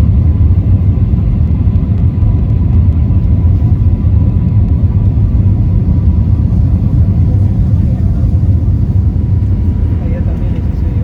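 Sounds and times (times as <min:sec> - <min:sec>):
airplane engine drone: 0:00.0 - 0:11.0.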